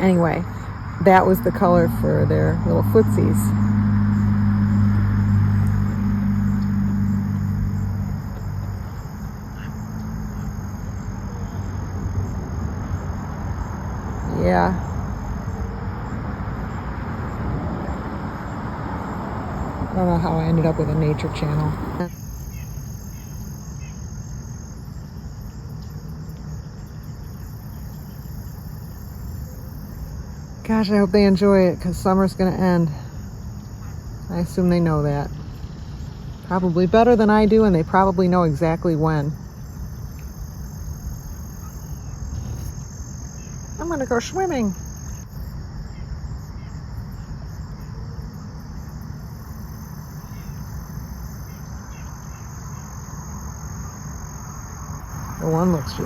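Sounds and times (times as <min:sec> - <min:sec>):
cricket-like insect chorus: 0:00.0 - 0:56.0.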